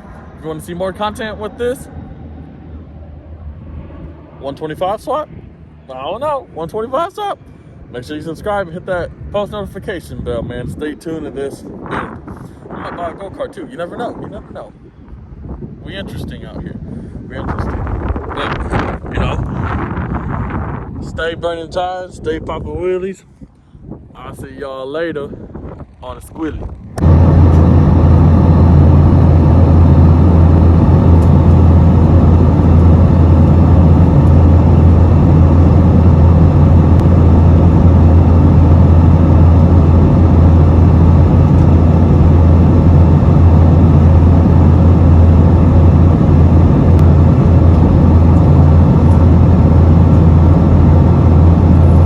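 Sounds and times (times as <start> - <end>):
loud engine-like drone: 0.0 - 21.7, 26.1 - 52.0.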